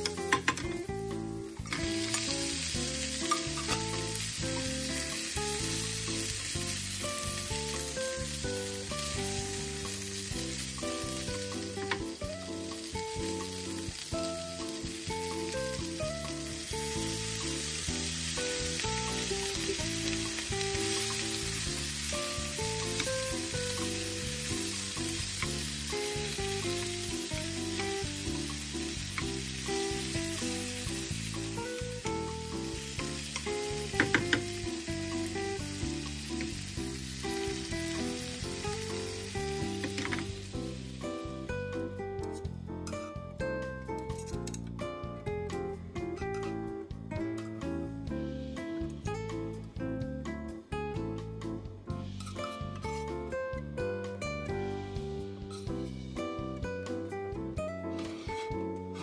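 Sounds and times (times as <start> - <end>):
meat and vegetables sizzling in pan: 0.0 - 43.2, 54.0 - 57.2, 57.9 - 59.0
background music with held notes: 0.0 - 59.0.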